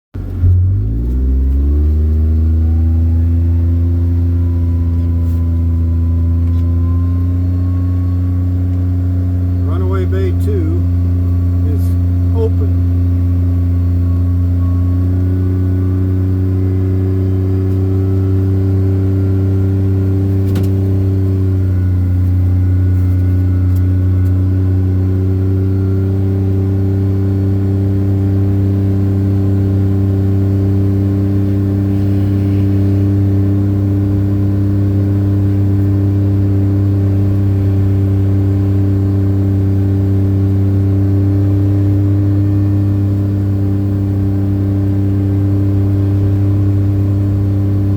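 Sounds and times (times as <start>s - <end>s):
engine humming: 0.2s - 47.9s.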